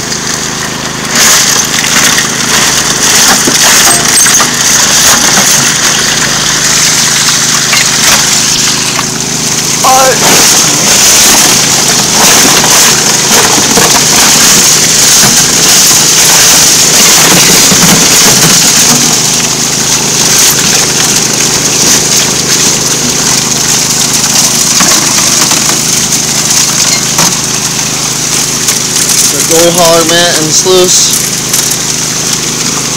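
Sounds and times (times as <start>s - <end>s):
small pump engine running: 0.0s - 32.9s
water and gravel rushing: 0.0s - 32.9s.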